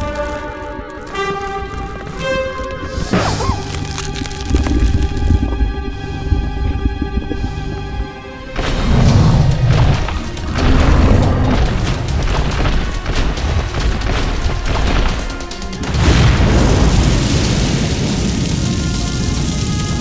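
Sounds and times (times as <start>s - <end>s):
dramatic soundtrack music: 0.0s - 20.0s
booms and explosions: 3.0s - 20.0s.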